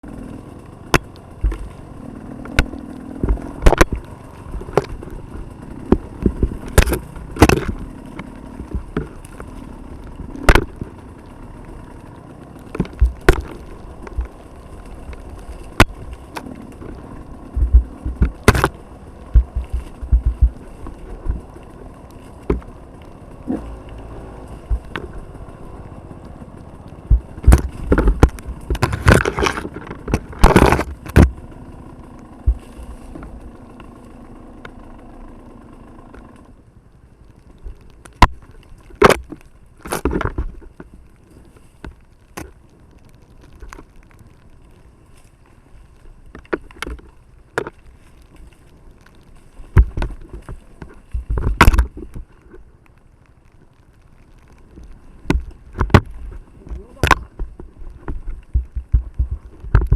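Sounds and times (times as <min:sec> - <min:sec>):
low engine rumble: 0:00.0 - 0:59.9.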